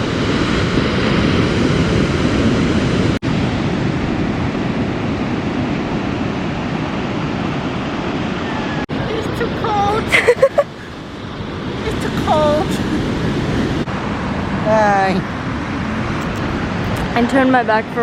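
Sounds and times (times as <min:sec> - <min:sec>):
ocean surf: 0:00.0 - 0:18.0
wind noise on microphone: 0:00.0 - 0:18.0.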